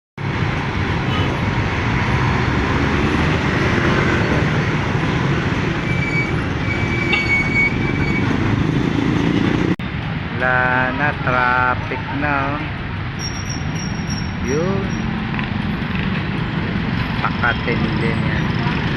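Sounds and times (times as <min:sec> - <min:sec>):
heavy road traffic rumble: 0:00.2 - 0:18.9.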